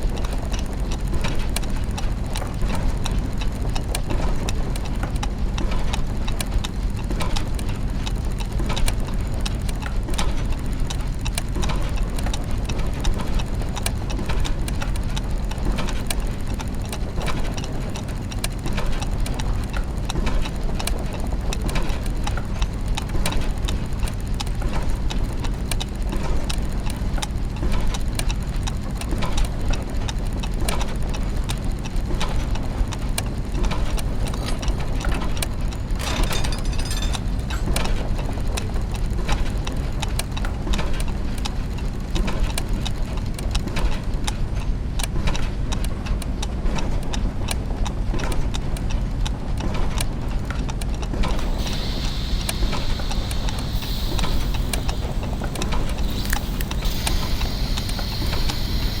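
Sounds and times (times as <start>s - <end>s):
clockwork ticking and ratcheting: 0.0s - 45.9s, 51.2s - 59.0s
low mechanical hum: 0.0s - 59.0s.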